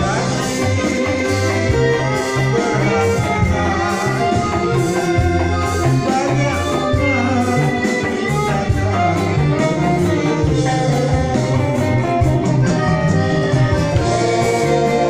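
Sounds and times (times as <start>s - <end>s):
electric bass line: 0.0s - 15.0s
keyboard: 0.0s - 15.0s
man singing: 0.0s - 15.0s
strummed strings and guitar: 0.0s - 15.0s.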